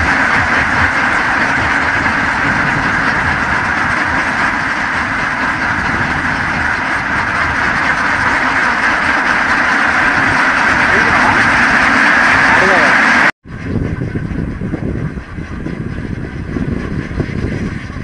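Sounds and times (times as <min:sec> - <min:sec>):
flock of ducks quacking: 0:00.0 - 0:18.0.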